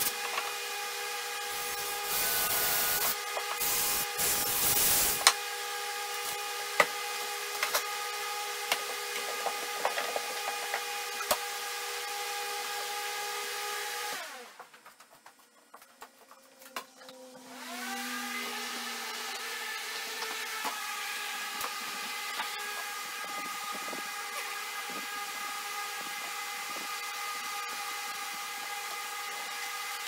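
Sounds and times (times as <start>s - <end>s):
wood lathe whining: 0.0s - 14.6s, 17.1s - 30.0s.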